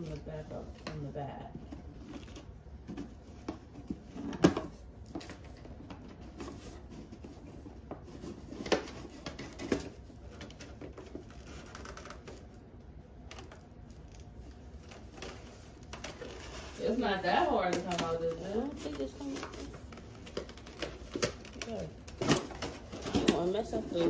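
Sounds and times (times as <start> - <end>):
gift box being handled: 0.0 - 12.6, 13.2 - 24.0.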